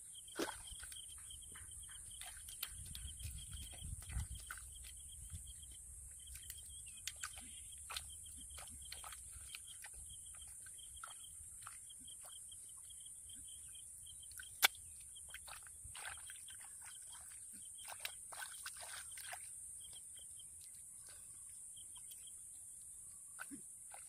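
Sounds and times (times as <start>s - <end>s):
hands squelching wet mud: 0.2s - 12.9s, 14.2s - 22.4s, 23.3s - 24.0s.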